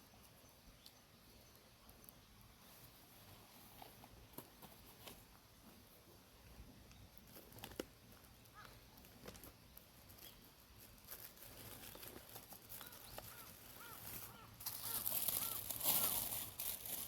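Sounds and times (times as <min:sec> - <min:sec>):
rustling crinkling noise: 0:00.8 - 0:17.0.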